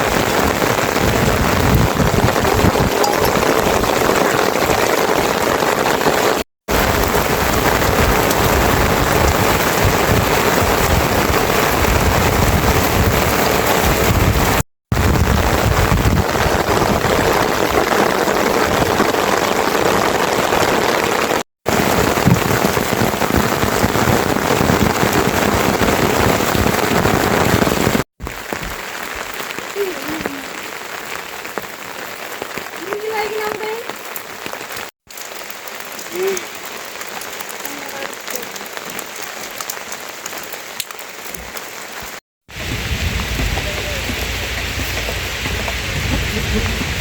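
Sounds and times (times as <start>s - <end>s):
heavy rain: 0.0s - 47.0s.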